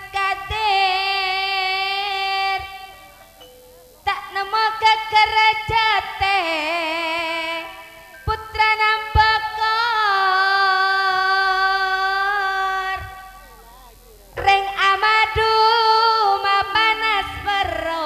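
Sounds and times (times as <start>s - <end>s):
woman singing through a microphone: 0.0s - 18.0s.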